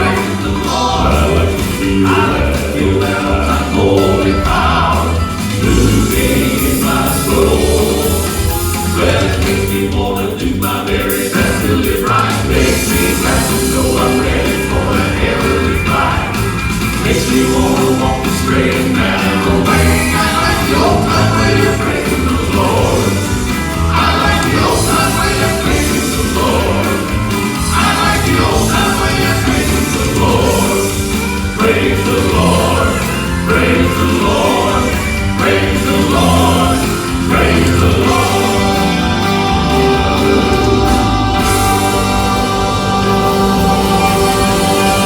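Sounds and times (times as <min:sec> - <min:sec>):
gospel quartet singing in harmony: 0:00.0 - 0:45.0
instrumental backing: 0:00.0 - 0:45.0.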